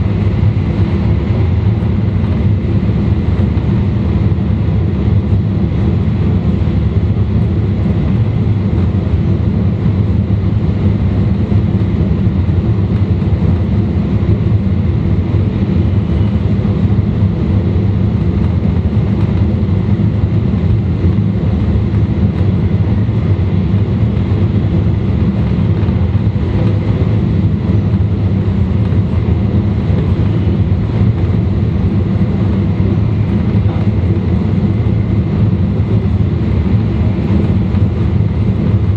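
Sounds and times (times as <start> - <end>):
train rumbling at speed: 0.0 - 38.9.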